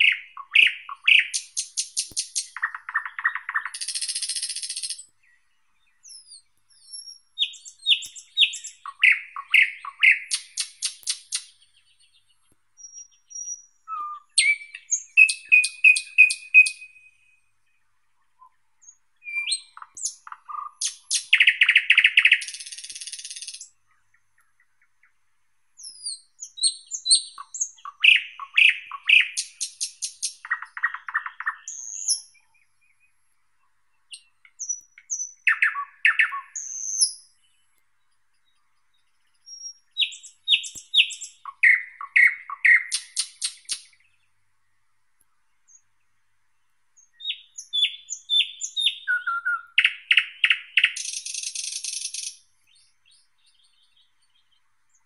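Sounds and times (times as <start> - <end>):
thrush nightingale singing: 0.0 - 55.0.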